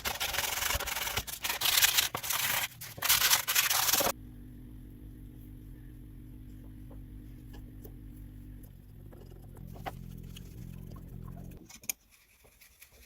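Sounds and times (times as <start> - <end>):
low hum: 0.5 - 11.6.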